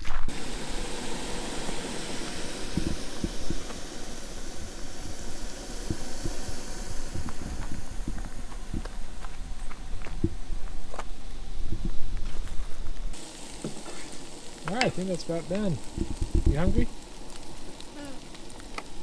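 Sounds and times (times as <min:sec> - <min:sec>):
gas stove burner hissing: 0:00.0 - 0:19.0
faint ticks: 0:01.7 - 0:19.0.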